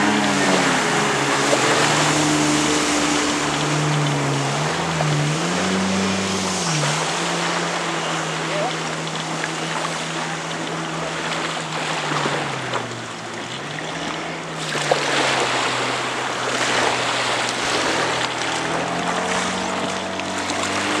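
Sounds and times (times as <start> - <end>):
jet ski engine whine: 0.0 - 21.0
motorboat engine: 0.0 - 21.0
waves: 0.0 - 21.0
wind: 0.0 - 21.0.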